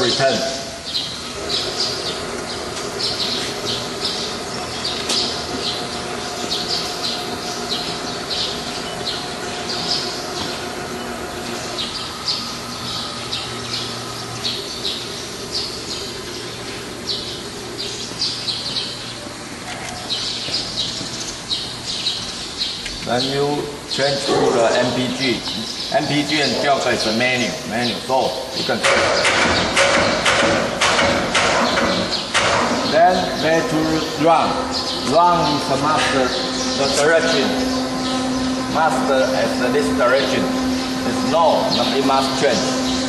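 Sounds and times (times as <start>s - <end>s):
small birds chirping: 0.0s - 30.3s, 31.6s - 43.0s
machine hum: 0.0s - 43.0s.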